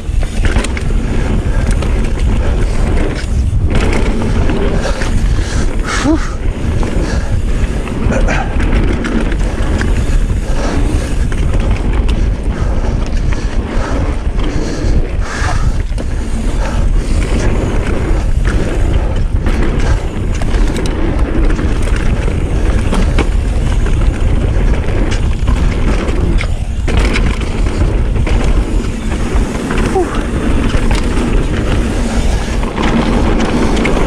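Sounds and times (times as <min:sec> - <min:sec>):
bike clattering over bumps: 0:00.0 - 0:34.0
bike tyres rolling on dirt: 0:00.0 - 0:34.0
wind buffeting microphone: 0:00.0 - 0:34.0.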